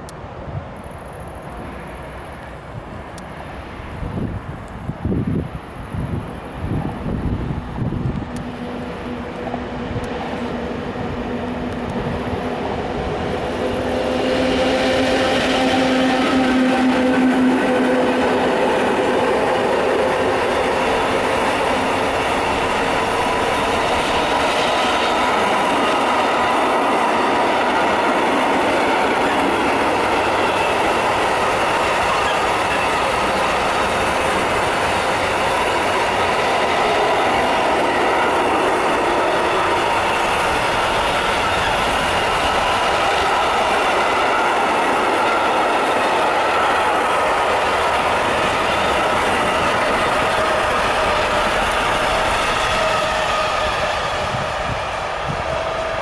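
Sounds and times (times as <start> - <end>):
freight train wheels clattering on rails: 10.0 - 56.0.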